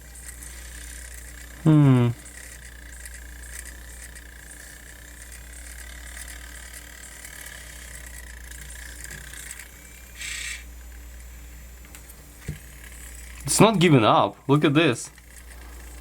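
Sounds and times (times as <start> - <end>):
disc drive whining: 0.0 - 16.0.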